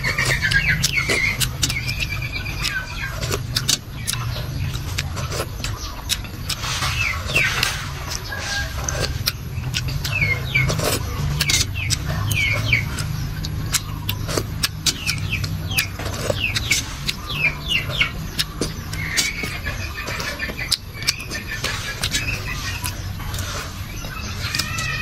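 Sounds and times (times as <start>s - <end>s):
birds chirping: 0.0s - 25.0s
mouth eating sounds: 0.0s - 25.0s.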